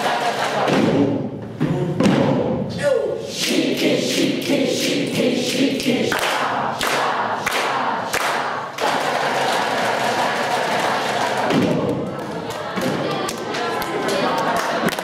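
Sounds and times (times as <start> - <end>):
group of people singing: 0.0 - 2.4, 3.2 - 15.0.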